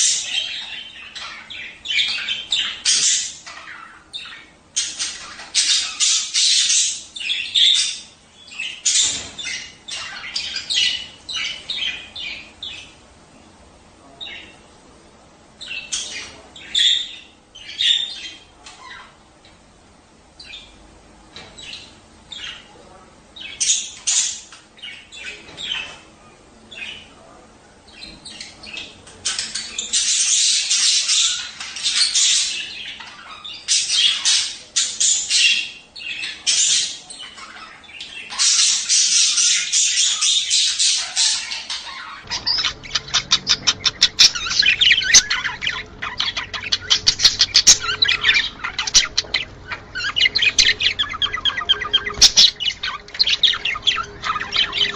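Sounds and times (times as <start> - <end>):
budgerigars chattering and squawking: 0.0 - 13.1, 15.6 - 19.6, 21.4 - 54.9.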